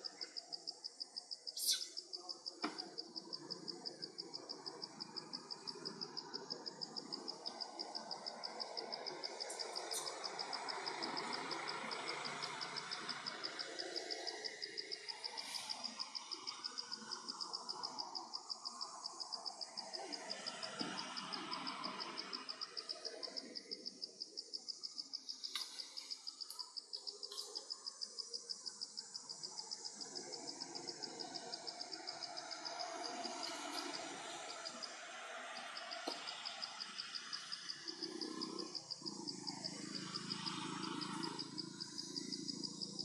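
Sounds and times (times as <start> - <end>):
insect chirping: 0.0 - 43.0
outdoor ambient hiss: 0.0 - 43.0.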